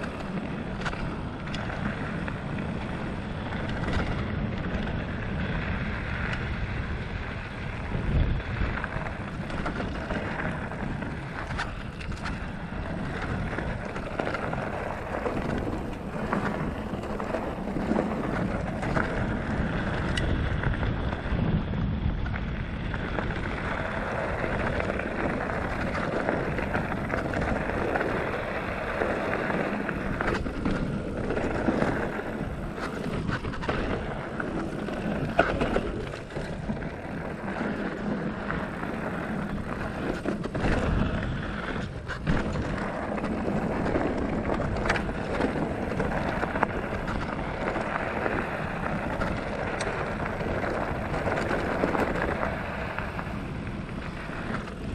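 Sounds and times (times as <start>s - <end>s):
bike knocking on bumps: 0.0s - 54.9s
bike rattling: 0.0s - 54.9s
tyres crunching on gravel: 0.0s - 54.9s
wind rushing across microphone: 0.0s - 54.9s.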